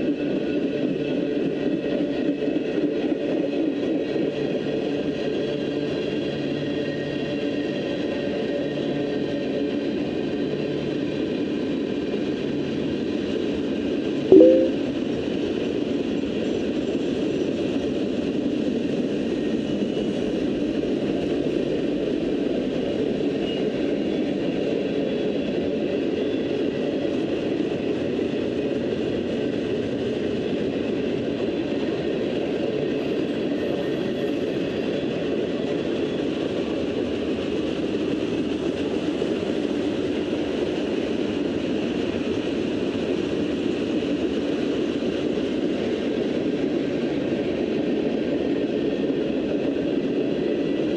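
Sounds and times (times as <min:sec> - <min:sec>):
train wheels rumbling on rail: 0:00.0 - 0:13.5, 0:17.6 - 0:50.9.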